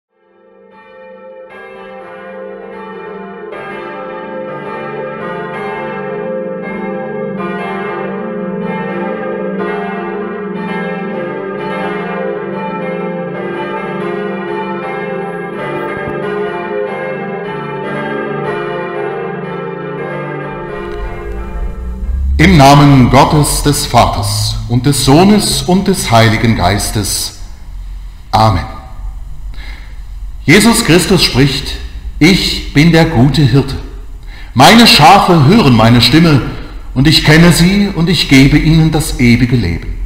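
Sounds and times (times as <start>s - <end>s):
church bells ringing: 0.2s - 28.0s, 30.5s - 39.6s.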